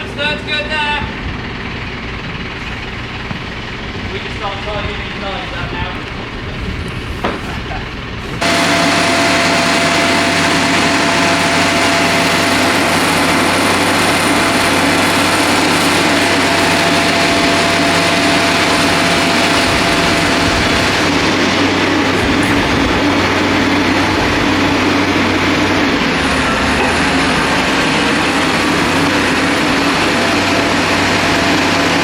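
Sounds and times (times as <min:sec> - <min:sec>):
diesel engine running: 0:00.0 - 0:32.0
low hum: 0:01.0 - 0:32.0.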